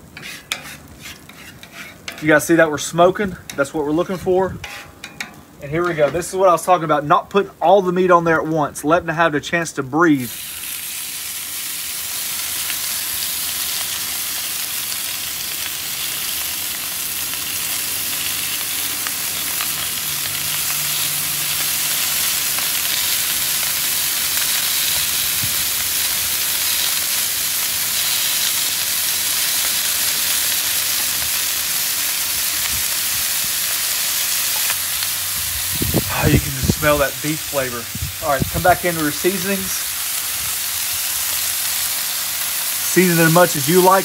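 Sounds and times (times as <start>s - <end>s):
meat sizzling on griddle: 0.0s - 44.0s.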